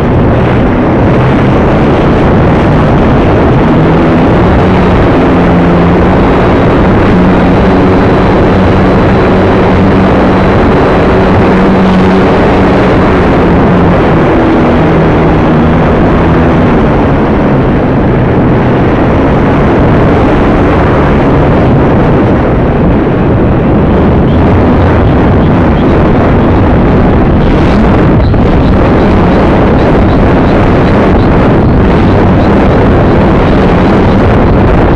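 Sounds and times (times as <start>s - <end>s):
motor and propeller drone: 0.0s - 34.9s
wind rushing over microphone: 0.0s - 34.9s.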